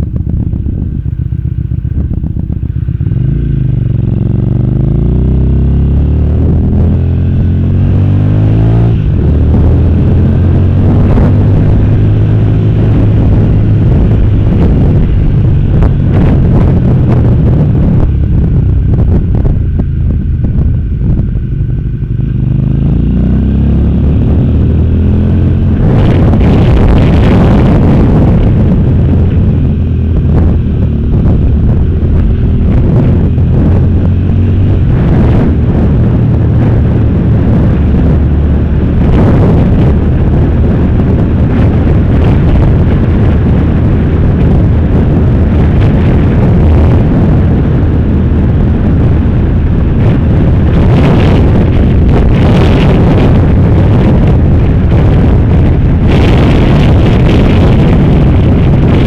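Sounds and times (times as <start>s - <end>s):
motorcycle engine accelerating: 0.0s - 59.0s
wind rushing over microphone: 0.0s - 59.0s.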